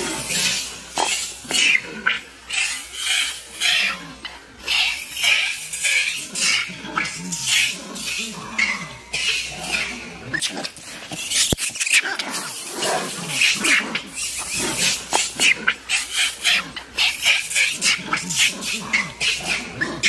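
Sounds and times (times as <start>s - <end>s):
monkey screaming: 0.0s - 20.0s.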